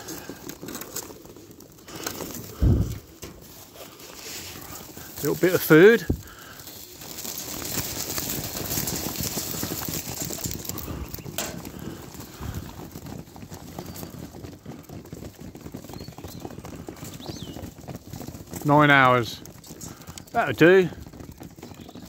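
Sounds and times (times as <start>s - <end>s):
pigeons pecking grain: 0.0s - 22.0s.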